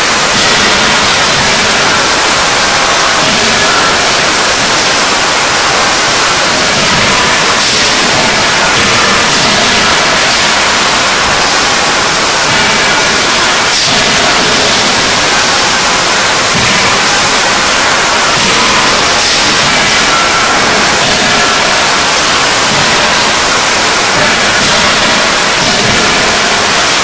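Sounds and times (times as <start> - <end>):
machinery rushing din: 0.0 - 27.0.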